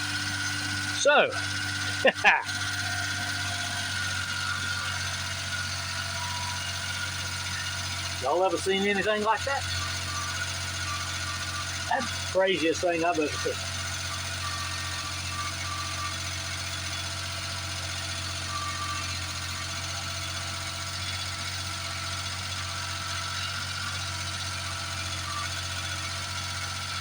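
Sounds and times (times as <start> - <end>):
small truck engine idling: 0.0 - 27.0.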